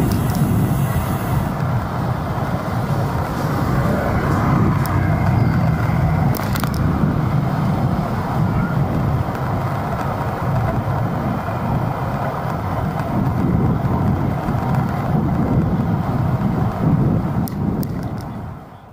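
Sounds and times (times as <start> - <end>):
road traffic: 0.0 - 18.9
wind rumble: 0.0 - 18.9.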